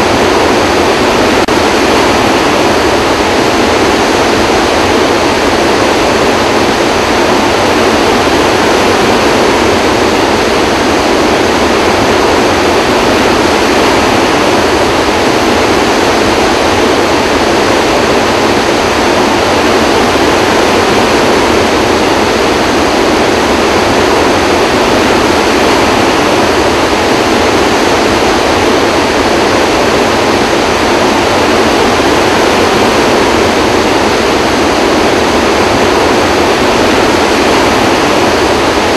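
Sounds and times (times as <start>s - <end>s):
water rushing from dam spillway: 0.0s - 38.9s.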